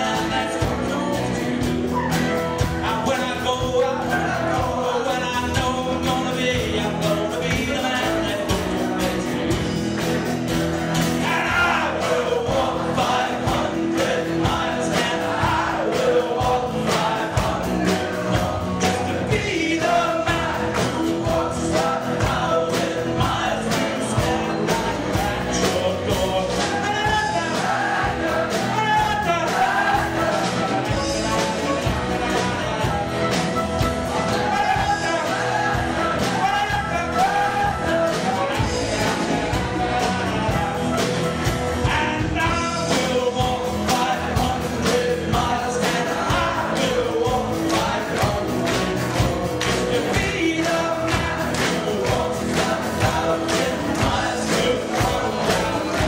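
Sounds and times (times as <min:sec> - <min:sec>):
live rock band playing: 0:00.0 - 0:56.0
man singing lead: 0:00.0 - 0:56.0.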